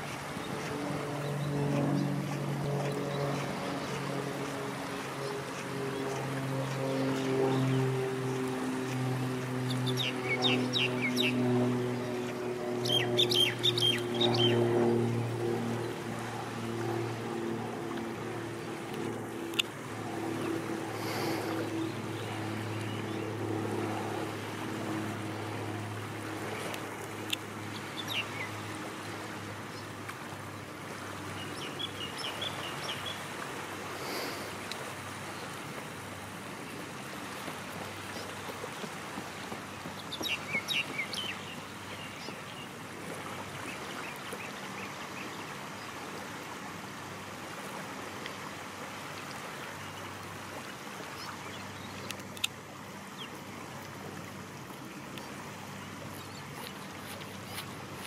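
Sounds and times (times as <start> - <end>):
water lapping at shore: 0.0 - 58.0.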